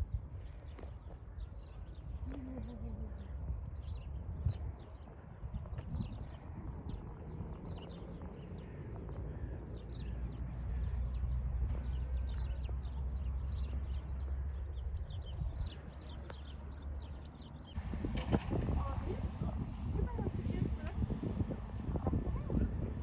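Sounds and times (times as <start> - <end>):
birds chirping: 0.0 - 23.0
low outdoor rumble: 0.0 - 23.0.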